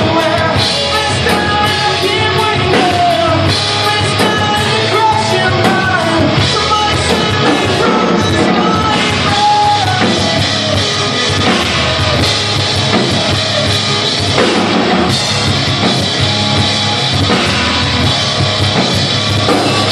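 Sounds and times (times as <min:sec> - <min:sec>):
drum kit beat: 0:00.0 - 0:19.9
electric guitar: 0:00.0 - 0:19.9
rock band playing live: 0:00.0 - 0:19.9.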